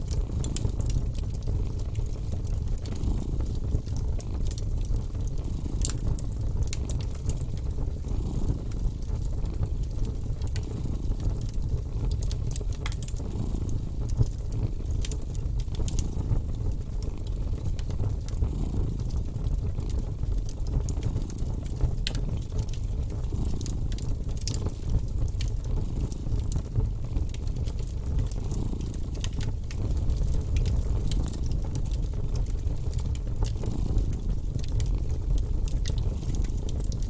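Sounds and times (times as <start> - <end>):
cat purring: 0.0 - 37.0
wood fire crackling: 0.0 - 37.0.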